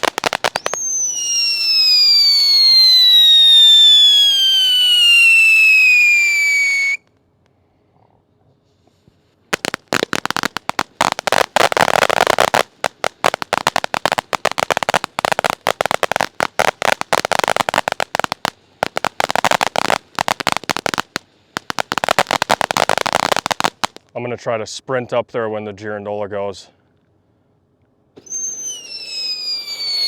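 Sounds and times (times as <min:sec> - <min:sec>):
firework fountain crackling: 0:00.0 - 0:07.0, 0:09.0 - 0:24.3, 0:28.2 - 0:30.0.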